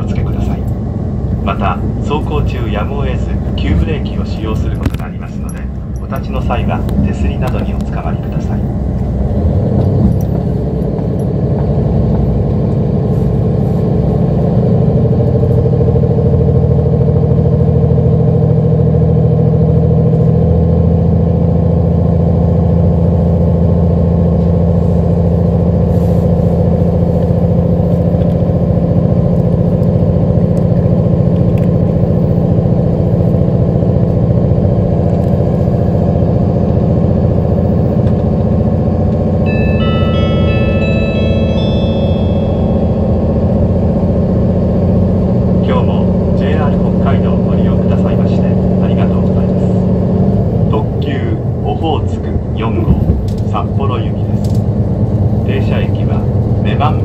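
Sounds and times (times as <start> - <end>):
diesel train engine humming: 0.0 - 57.0.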